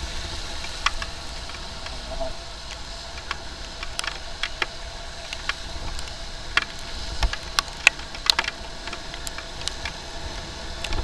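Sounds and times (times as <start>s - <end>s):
hiss of wet road: 0.0s - 11.0s
traffic noise: 0.0s - 11.0s
raindrops tapping on camera: 0.3s - 11.0s.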